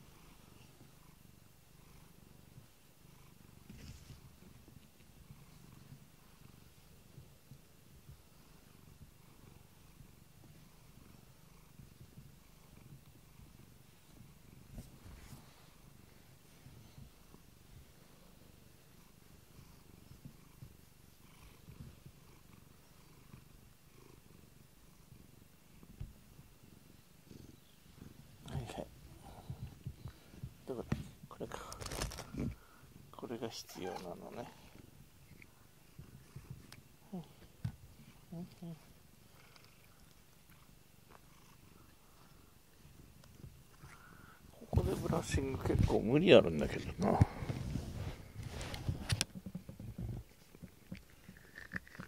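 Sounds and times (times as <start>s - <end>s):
cat purring: 0.0s - 52.0s.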